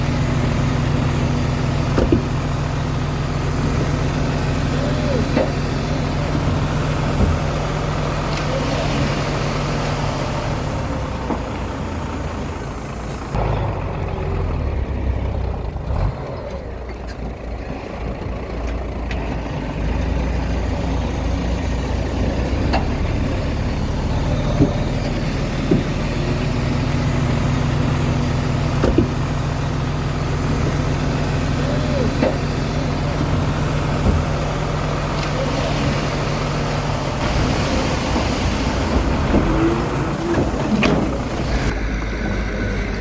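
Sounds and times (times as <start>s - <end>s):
bulldozer diesel engine under load: 0.0s - 43.0s.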